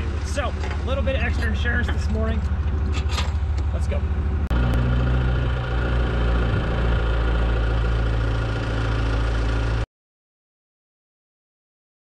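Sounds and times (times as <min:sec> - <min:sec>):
large vehicle engine droning: 0:00.0 - 0:09.9.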